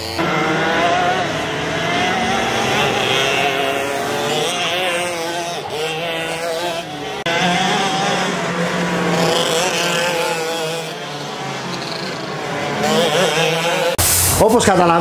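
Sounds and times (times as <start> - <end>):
kart engines racing: 0.0 - 15.0.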